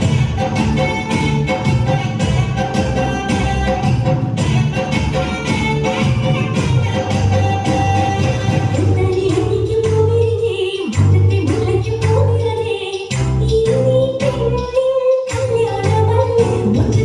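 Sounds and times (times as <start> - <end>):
repeating bass beat: 0.0 - 14.7, 15.3 - 17.0.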